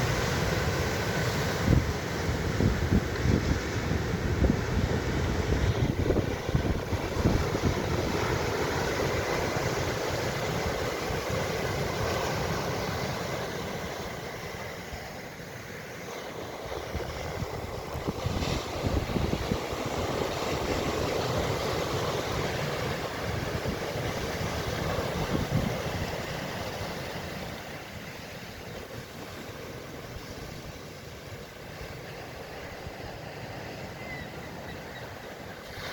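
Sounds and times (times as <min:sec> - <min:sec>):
ocean surf washing in: 0:00.0 - 0:35.9
wind buffeting microphone: 0:00.9 - 0:12.9, 0:16.7 - 0:35.9.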